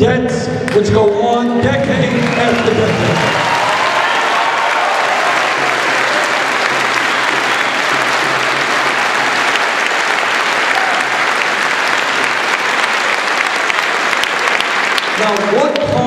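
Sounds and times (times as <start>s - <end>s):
audience applauding: 1.8s - 16.0s.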